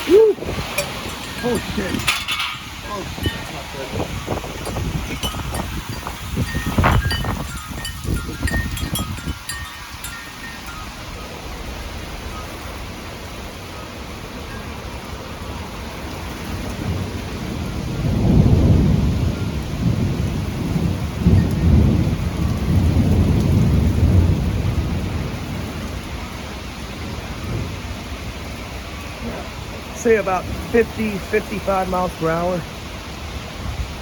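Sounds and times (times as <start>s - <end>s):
strong wind gust: 0.0s - 13.7s, 14.3s - 34.0s
heavy rain: 0.0s - 34.0s.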